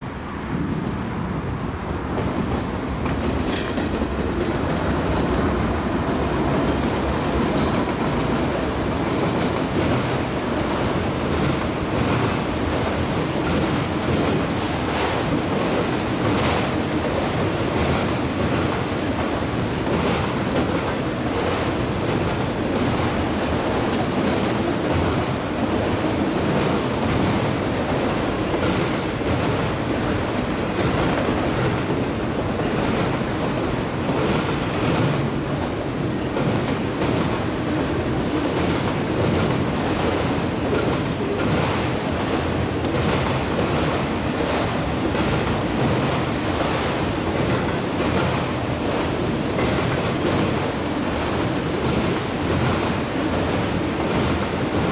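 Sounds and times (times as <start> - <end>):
train wheels rumbling on rails: 0.0 - 54.9
wheels clacking over rail joints: 2.2 - 54.9.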